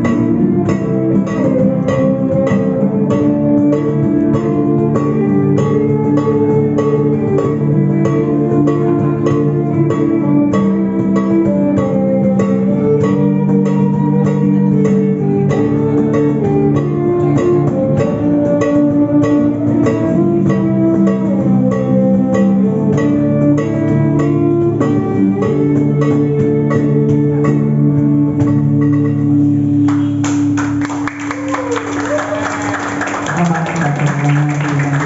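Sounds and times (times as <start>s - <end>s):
plucked guitar-like instrumental music: 0.0s - 35.0s.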